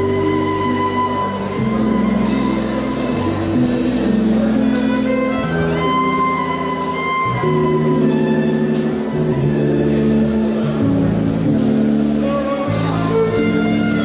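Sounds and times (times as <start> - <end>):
drum kit: 0.0 - 14.0
keyboard: 0.0 - 14.0
violin melody: 0.0 - 14.0.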